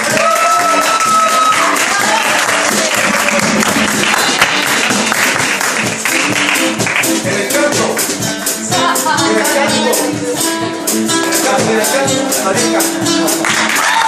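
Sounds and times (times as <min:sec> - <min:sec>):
guitar playing: 0:00.0 - 0:14.0.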